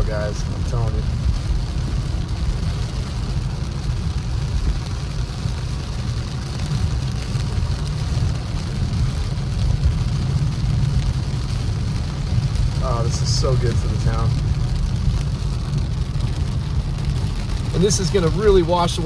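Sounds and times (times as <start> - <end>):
rain hissing on car roof: 0.0 - 19.0
tyres rumbling on wet road: 0.0 - 19.0.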